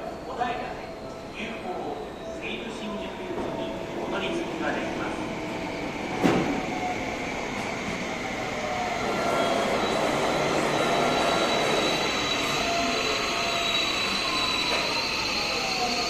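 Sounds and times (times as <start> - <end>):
electric train running on rails: 0.0 - 16.0.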